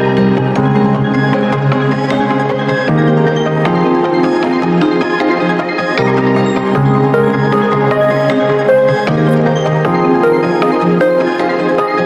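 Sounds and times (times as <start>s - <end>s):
struck notes over held chords: 0.0s - 12.0s.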